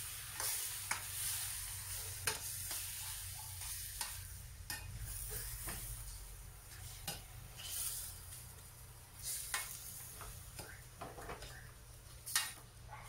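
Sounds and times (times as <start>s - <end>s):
chicken sizzling in frying pan: 0.0s - 10.5s.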